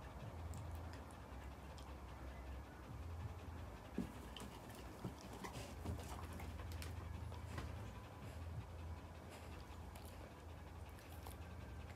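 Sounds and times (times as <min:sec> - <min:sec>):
dogs panting: 0:00.0 - 0:11.9.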